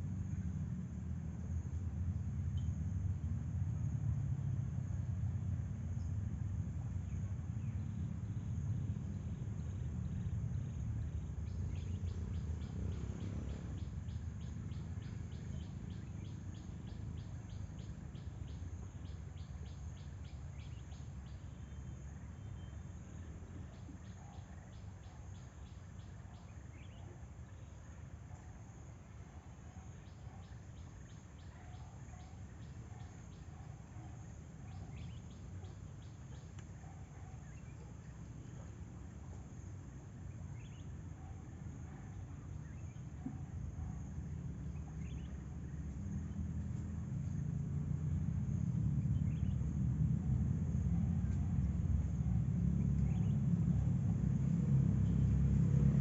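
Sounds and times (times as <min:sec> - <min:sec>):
cricket chirping: 0:00.0 - 0:56.0
high insect hum: 0:00.0 - 0:56.0.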